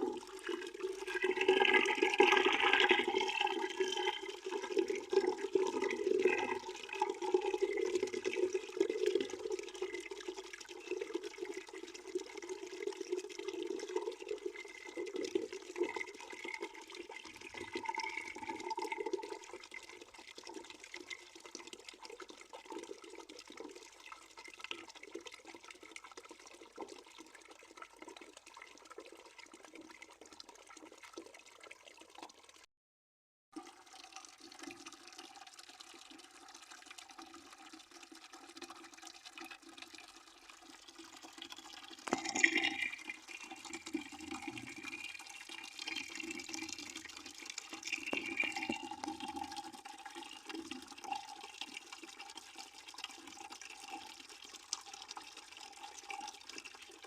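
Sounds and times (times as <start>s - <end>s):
tap water filling a bucket: 0.0s - 32.7s, 33.5s - 57.0s.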